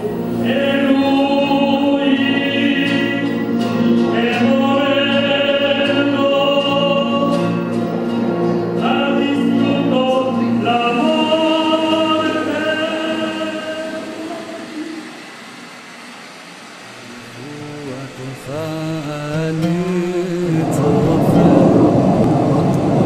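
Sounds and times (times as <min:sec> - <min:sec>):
choir singing sustained chords: 0:00.0 - 0:23.0.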